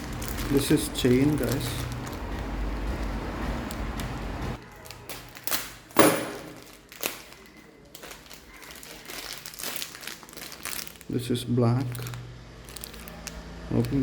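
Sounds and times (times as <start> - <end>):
packet rustling: 0.0 - 14.0.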